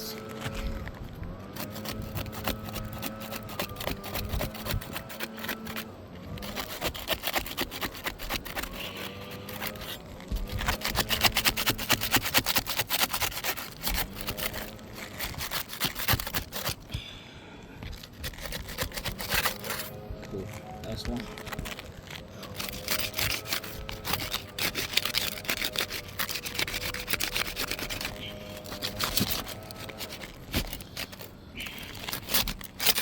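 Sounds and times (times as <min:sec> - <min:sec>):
tool scraping roof shingles: 0:00.0 - 0:17.0, 0:17.8 - 0:33.0.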